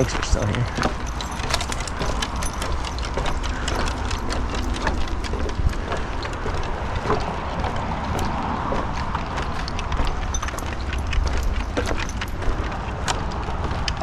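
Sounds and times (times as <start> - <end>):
footsteps on wooden boardwalk: 0.0 - 14.0.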